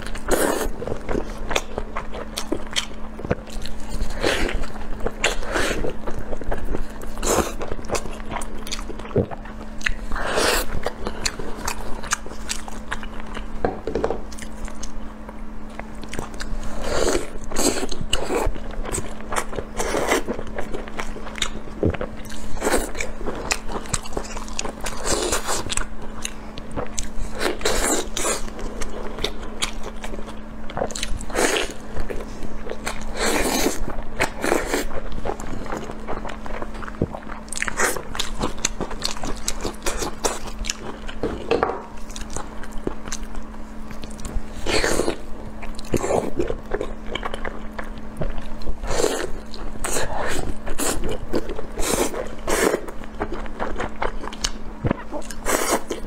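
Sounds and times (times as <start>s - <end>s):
person chewing food: 0.0s - 56.0s
steady low hum: 0.0s - 56.0s.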